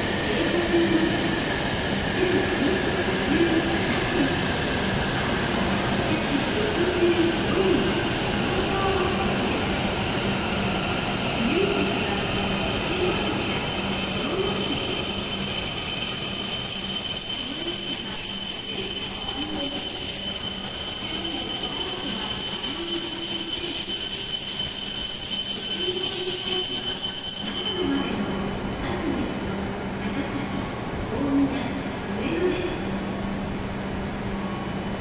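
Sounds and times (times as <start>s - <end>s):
train braking to a stop: 0.0s - 29.6s.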